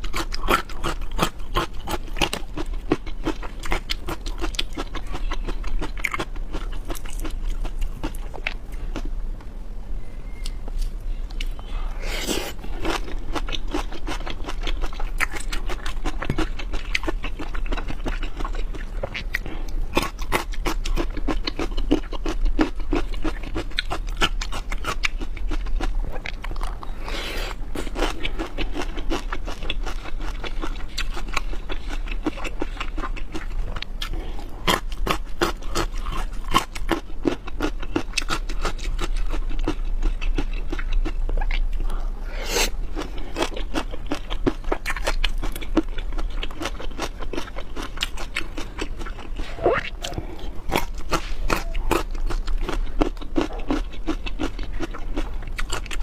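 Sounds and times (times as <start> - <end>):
person chewing shrimp: 0.0 - 9.2, 10.4 - 56.0.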